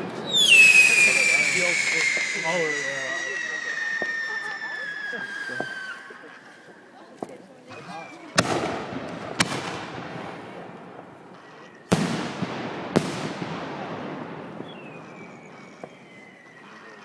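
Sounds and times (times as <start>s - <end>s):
fireworks bangs: 0.0s - 17.0s
fireworks rumble: 0.0s - 17.0s.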